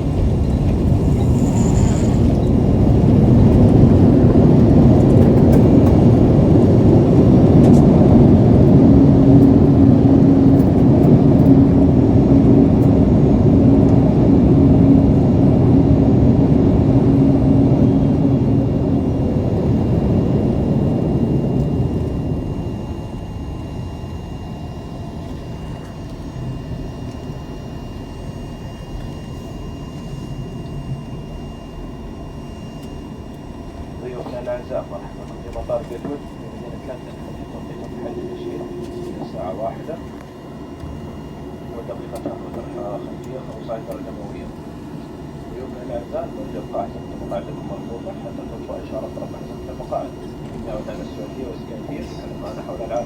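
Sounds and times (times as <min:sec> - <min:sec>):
airliner engines and wheels rumbling: 0:00.0 - 0:53.0.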